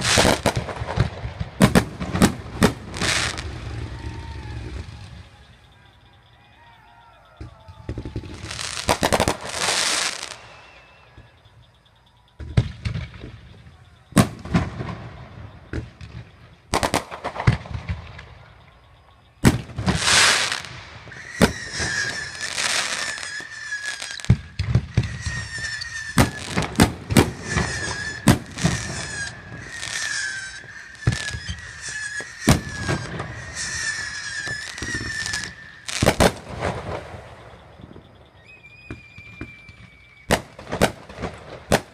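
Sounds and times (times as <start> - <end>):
fireworks bangs: 0.0 - 6.1, 7.3 - 41.9
wavering firework whistle: 0.0 - 41.9.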